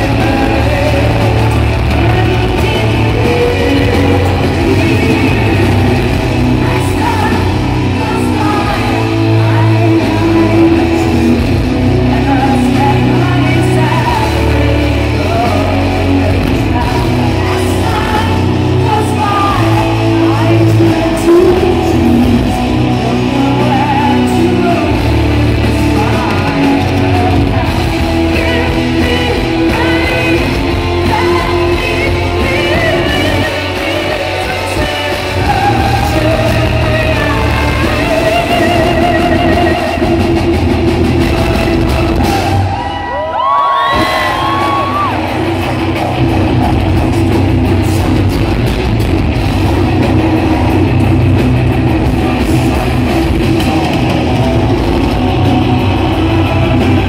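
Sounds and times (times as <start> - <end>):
woman singing lead: 0.0 - 46.6
symphonic metal band playing live: 0.0 - 57.0.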